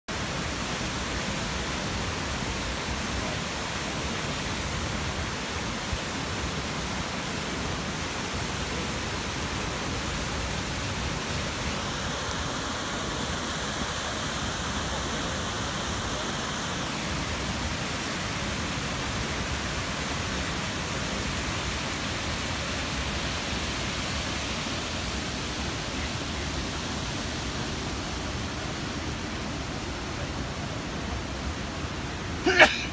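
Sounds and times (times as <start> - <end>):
waterfall rushing: 0.1 - 32.9.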